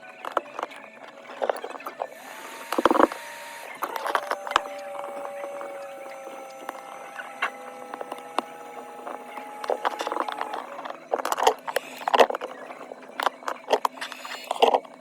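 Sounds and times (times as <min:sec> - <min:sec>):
faint steady hum: 0:00.0 - 0:15.0
hand tools tapping and scraping: 0:00.0 - 0:15.0.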